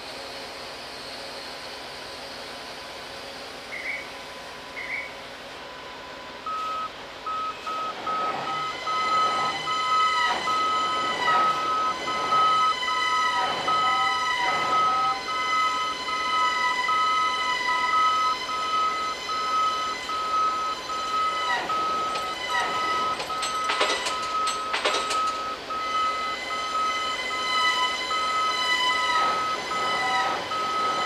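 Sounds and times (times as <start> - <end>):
crane drivetrain whine: 0.0 - 31.0
crane warning beeper: 3.7 - 31.0.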